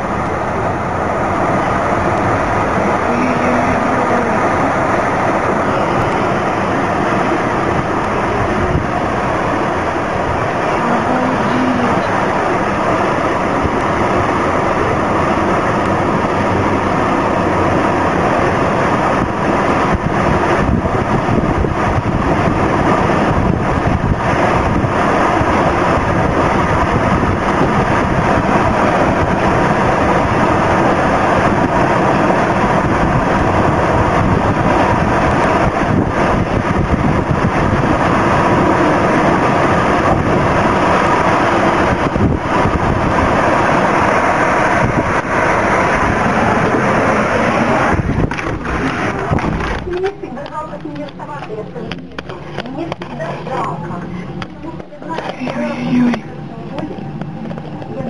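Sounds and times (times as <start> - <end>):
tornado winds rushing: 0.0 - 58.0.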